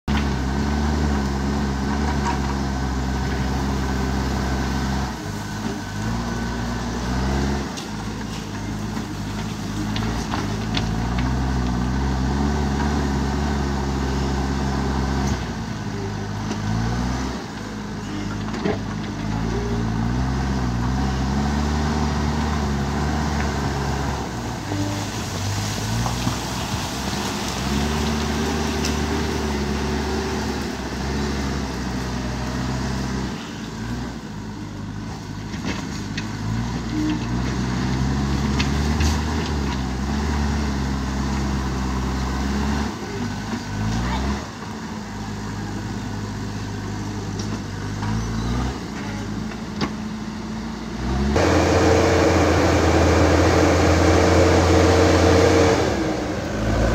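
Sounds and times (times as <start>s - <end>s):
diesel engine under load: 0.0s - 56.9s.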